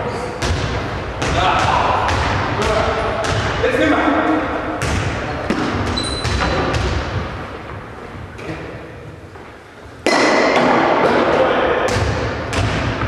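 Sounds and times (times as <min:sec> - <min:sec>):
loud dense noise: 0:00.0 - 0:13.0
balls thudding on hall floor: 0:00.2 - 0:04.0, 0:04.7 - 0:13.0.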